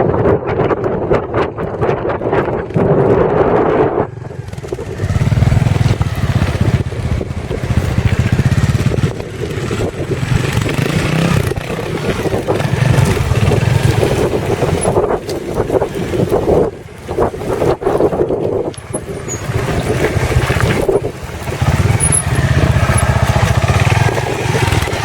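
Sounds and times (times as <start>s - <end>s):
motorcycle engine revving: 2.8s - 25.0s.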